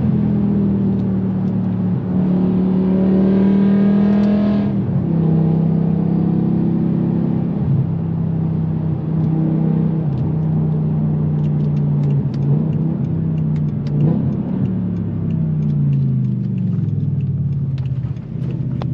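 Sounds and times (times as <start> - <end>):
car engine through loud exhaust: 0.0 - 18.9.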